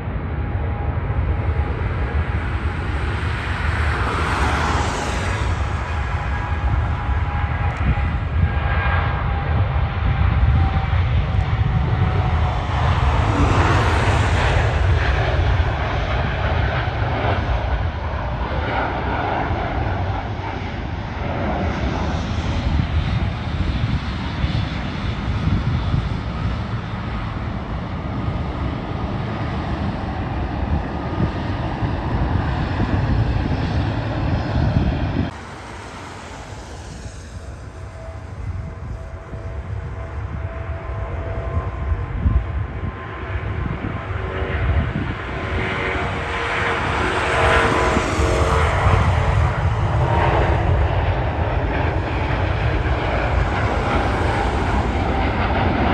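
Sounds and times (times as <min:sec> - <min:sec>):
airliner jet engine roar: 0:00.0 - 0:55.9.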